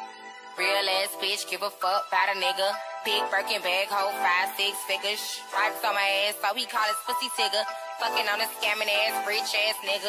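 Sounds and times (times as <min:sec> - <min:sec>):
hip-hop music with singing: 0:00.0 - 0:10.0.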